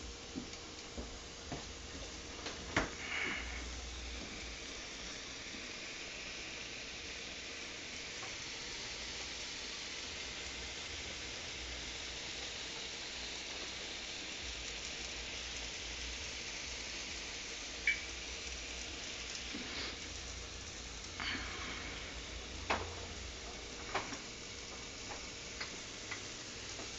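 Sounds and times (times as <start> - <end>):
food sizzling in a pan: 0.0 - 26.9.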